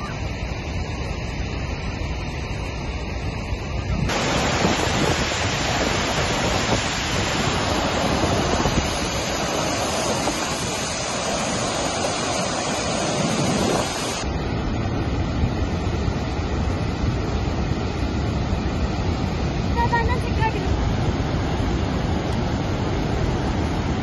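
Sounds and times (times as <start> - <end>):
outdoor wind noise: 0.0 - 24.0
rush of falling water: 0.0 - 24.0.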